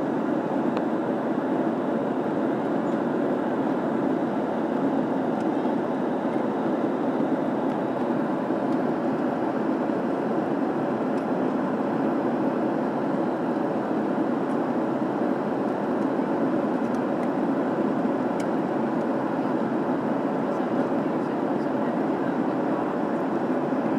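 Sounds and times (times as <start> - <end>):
airliner cabin noise: 0.0 - 23.9.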